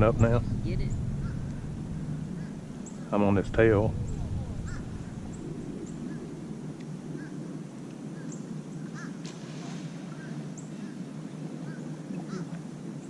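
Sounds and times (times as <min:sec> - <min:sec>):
birds chirping: 0:00.0 - 0:09.2, 0:10.1 - 0:13.0
steady low background noise: 0:00.0 - 0:13.0.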